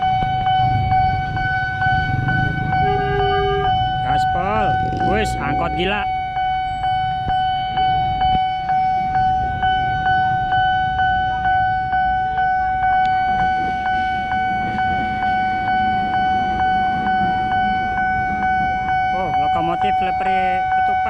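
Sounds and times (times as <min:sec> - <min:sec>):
level crossing warning bell: 0:00.0 - 0:21.0
low rumble of vehicles: 0:00.0 - 0:21.0.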